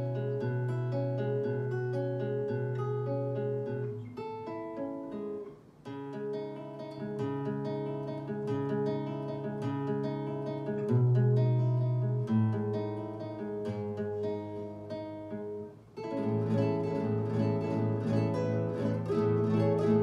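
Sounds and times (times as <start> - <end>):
acoustic guitar through speaker: 0.0 - 20.0.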